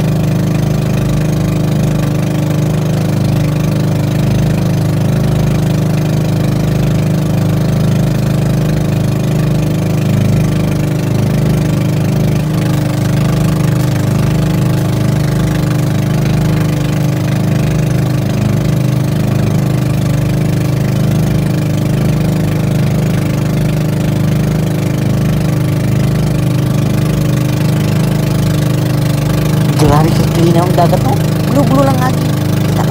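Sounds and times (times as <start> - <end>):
boat engine running: 0.0 - 32.9.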